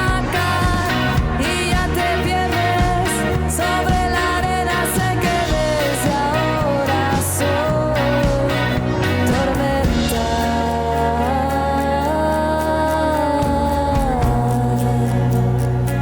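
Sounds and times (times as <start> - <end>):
synth pop band playing: 0.0 - 16.0.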